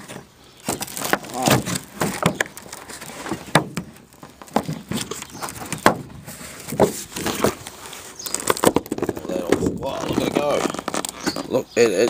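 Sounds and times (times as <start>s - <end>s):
plastic sheet cracking as peeled: 0.6s - 6.0s, 6.6s - 11.6s.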